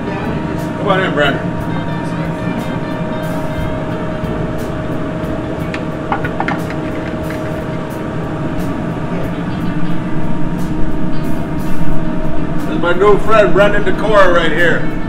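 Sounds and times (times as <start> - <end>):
kitchen ventilation drone: 0.0 - 15.0.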